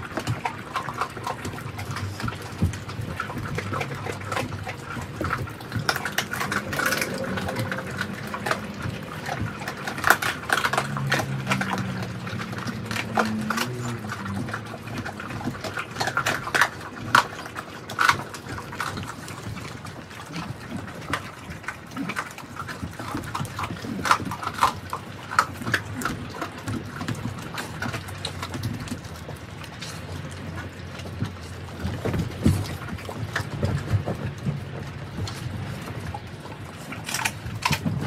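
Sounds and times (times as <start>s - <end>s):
dogs chewing and crunching bones: 0.0s - 38.0s.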